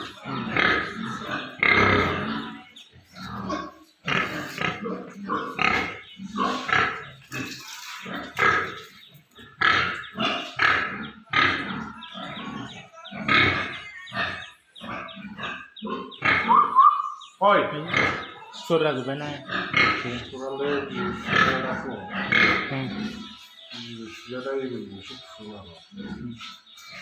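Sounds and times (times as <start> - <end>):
pigs calling: 0.0 - 27.0.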